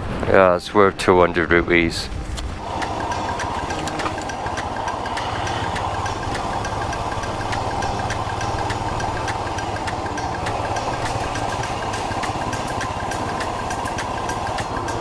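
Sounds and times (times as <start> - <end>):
light ticks: 2.3 - 15.0
motorcycle engine running: 2.4 - 15.0.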